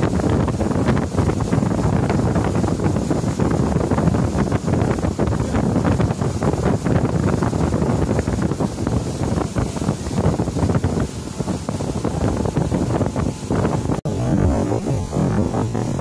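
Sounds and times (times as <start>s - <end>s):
boat wake rushing: 0.0s - 16.0s
wind buffeting microphone: 0.0s - 16.0s.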